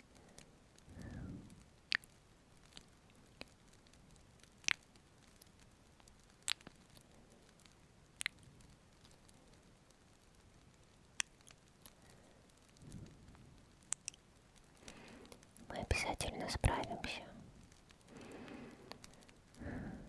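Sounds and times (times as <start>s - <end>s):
faint hiss: 0.0s - 20.0s.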